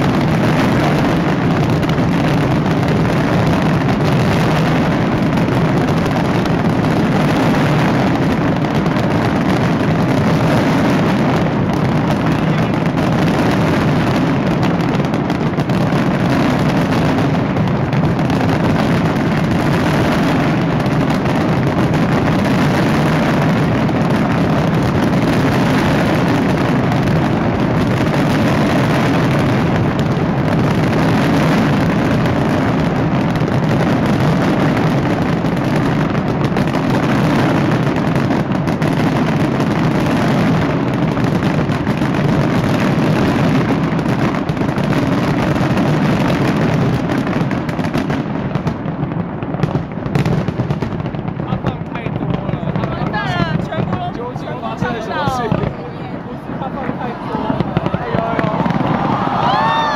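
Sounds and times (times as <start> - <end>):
fireworks barrage: 0.0 - 59.9.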